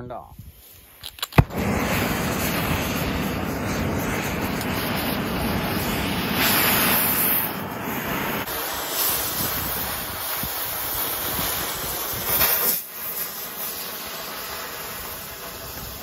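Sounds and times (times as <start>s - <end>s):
cutting torch hissing flame: 0.4s - 16.0s.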